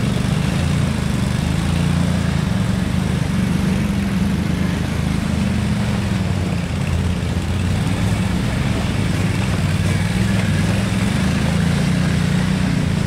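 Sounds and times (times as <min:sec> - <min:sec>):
quad bike engine in water: 0:00.0 - 0:13.0.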